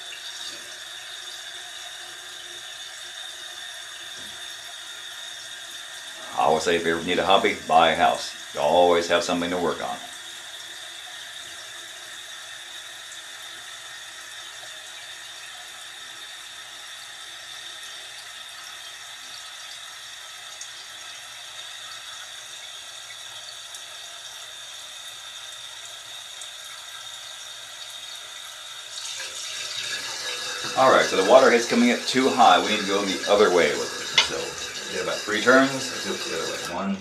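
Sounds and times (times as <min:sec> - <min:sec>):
toilet tank refilling hiss: 0:00.0 - 0:37.0.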